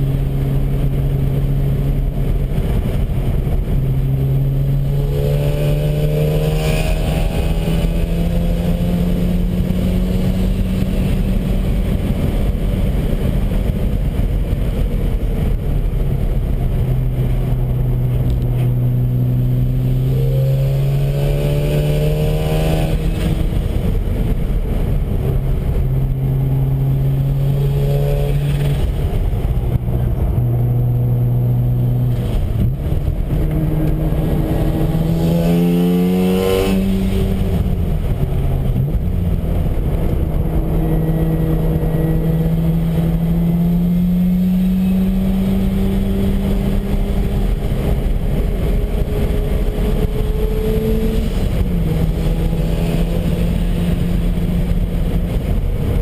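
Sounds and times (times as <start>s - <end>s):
rotary engine accelerating: 0.0s - 56.0s.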